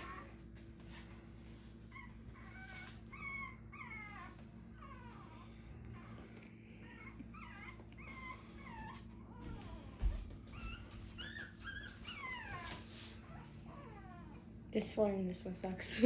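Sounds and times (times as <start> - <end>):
dog whimpering: 0.0 - 0.4, 1.8 - 14.6.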